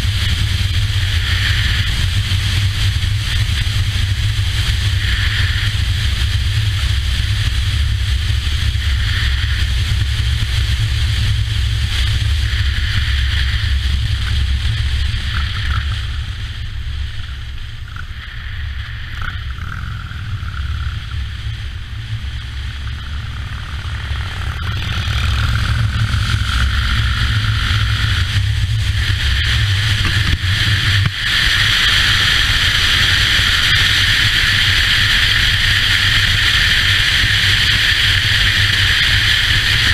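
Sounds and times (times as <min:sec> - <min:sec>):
motorcycle engine rumble: 0:00.0 - 0:39.9
wind rush on microphone: 0:00.0 - 0:39.9.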